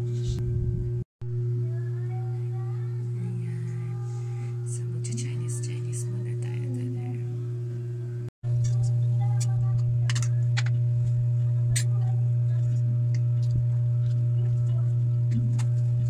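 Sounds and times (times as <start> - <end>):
loud steady low hum: 0.0 - 16.0.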